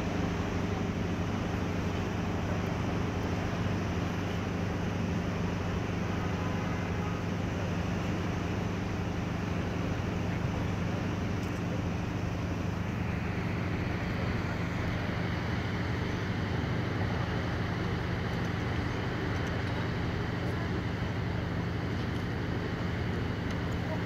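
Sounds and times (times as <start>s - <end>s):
churning water: 0.0s - 24.0s
ship engine humming: 0.0s - 24.0s.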